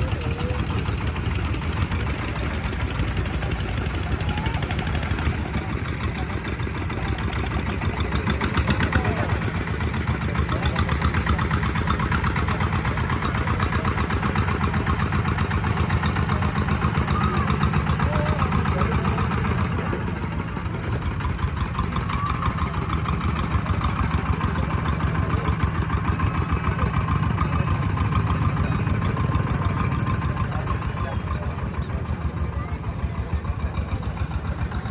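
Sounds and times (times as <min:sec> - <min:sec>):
boat engine running: 0:00.0 - 0:34.9.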